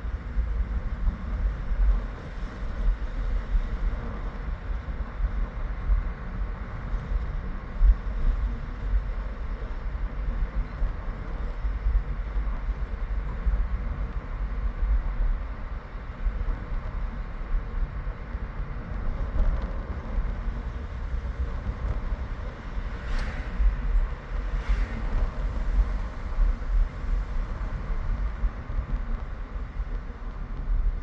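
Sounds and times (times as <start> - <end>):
steady rumbling noise: 0.0 - 31.0
wind buffeting microphone: 0.0 - 31.0.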